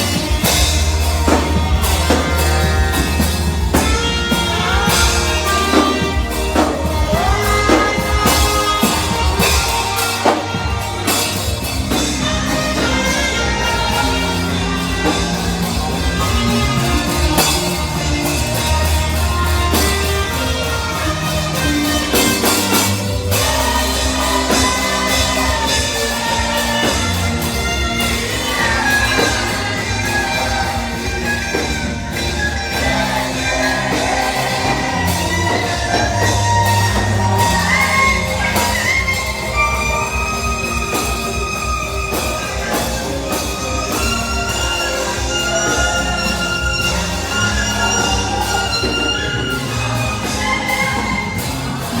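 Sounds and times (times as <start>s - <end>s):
congregation shouting and whooping: 0.0s - 52.0s
saxophone melody: 0.0s - 52.0s
voices singing: 0.0s - 52.0s
worship band playing: 0.0s - 52.0s.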